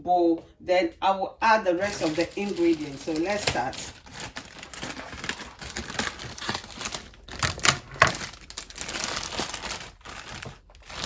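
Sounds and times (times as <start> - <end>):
plastic wrapping crinkling: 1.7 - 11.0.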